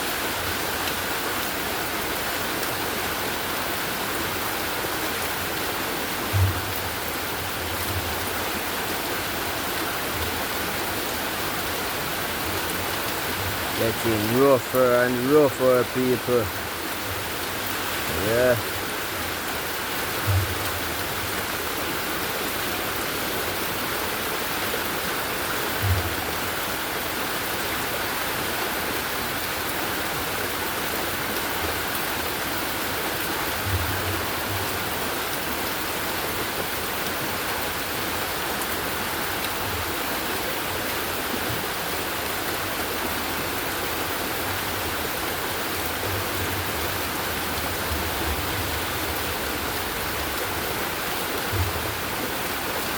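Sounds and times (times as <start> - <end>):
heavy rain: 0.0 - 52.9
rushing runoff water: 0.0 - 52.9.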